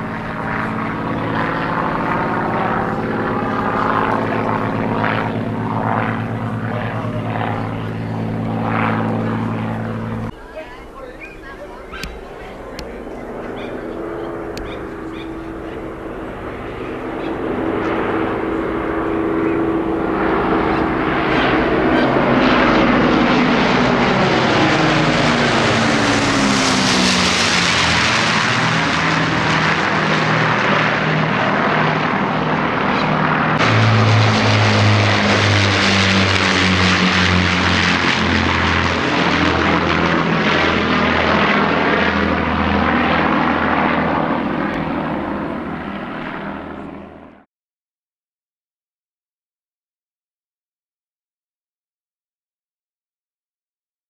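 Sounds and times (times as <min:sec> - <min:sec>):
deeper engine drone: 0:00.0 - 0:10.5, 0:11.2 - 0:46.9
propeller aircraft flying past: 0:00.0 - 0:47.5.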